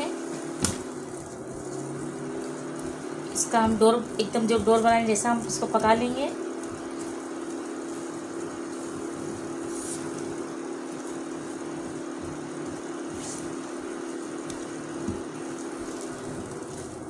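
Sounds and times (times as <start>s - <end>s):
induction cooktop humming: 0.0s - 17.0s.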